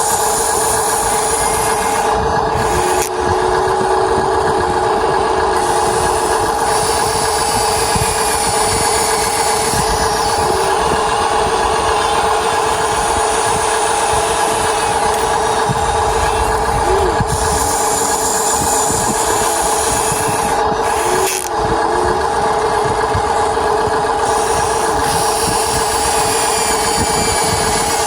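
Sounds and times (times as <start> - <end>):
small motor humming and whining: 0.0 - 28.0.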